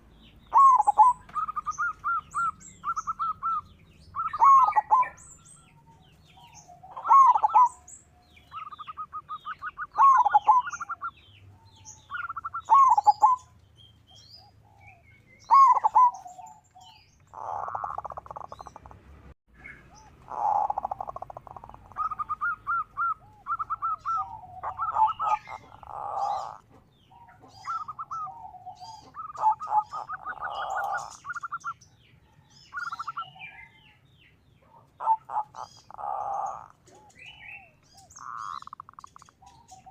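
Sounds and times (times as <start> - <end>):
dove cooing: 0.0 - 13.5, 14.1 - 19.0, 19.6 - 34.0, 34.6 - 39.9
small birds twittering: 0.0 - 39.9.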